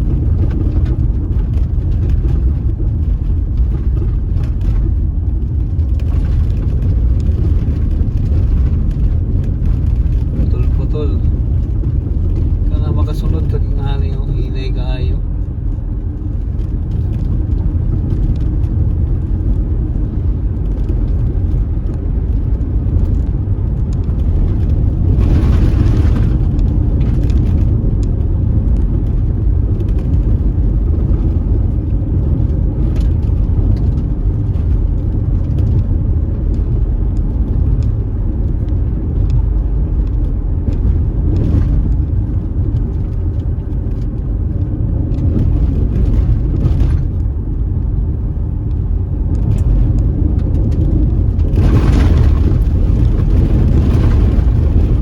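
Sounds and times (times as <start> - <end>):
car driving on dusty road: 0.0 - 55.0.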